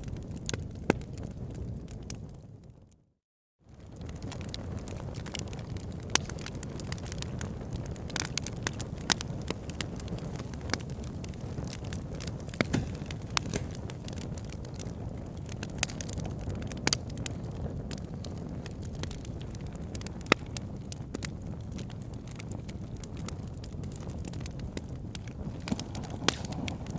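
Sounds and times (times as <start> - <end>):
wood fire popping: 0.0 - 2.5, 3.7 - 26.9
fire crackling: 0.0 - 2.7, 3.7 - 26.9
fire rumbling: 3.7 - 26.9.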